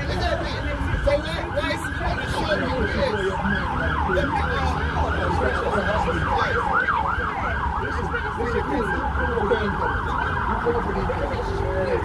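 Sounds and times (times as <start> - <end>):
emergency siren yelping: 0.0 - 12.0.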